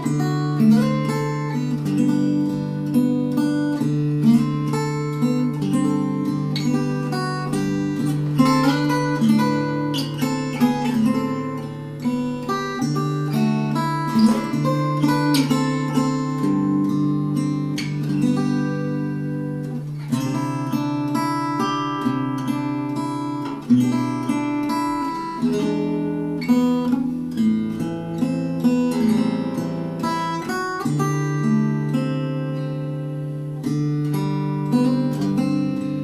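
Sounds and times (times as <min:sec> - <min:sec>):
fingerstyle acoustic guitar: 0:00.0 - 0:36.0.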